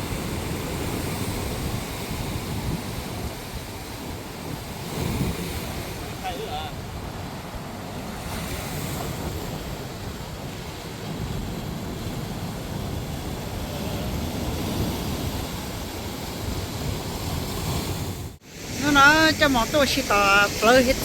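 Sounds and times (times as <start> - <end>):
ocean surf rushing: 0.0 - 21.0
wind rumbling on microphone: 0.0 - 21.0.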